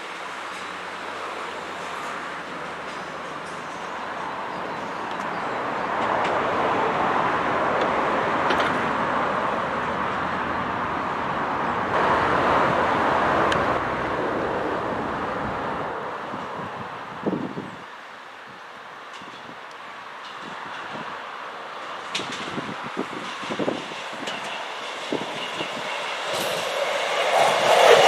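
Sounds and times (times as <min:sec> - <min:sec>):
train passing: 0:00.0 - 0:16.8, 0:20.0 - 0:28.0.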